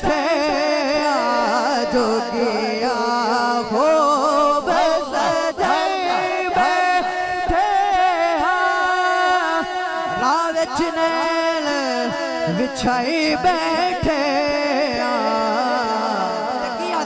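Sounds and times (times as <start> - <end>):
man singing long ornamented notes: 0.0 - 17.0.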